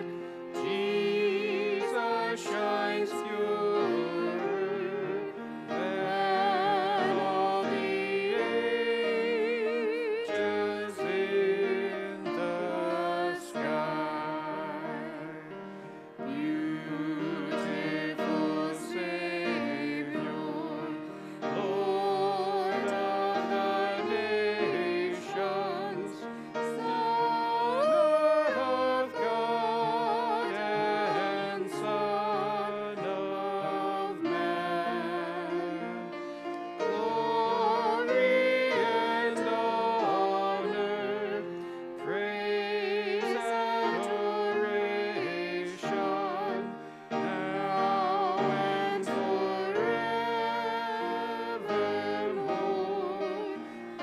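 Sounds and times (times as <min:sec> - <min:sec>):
instrumental accompaniment: 0:00.0 - 0:54.0
voices singing a hymn: 0:00.0 - 0:54.0.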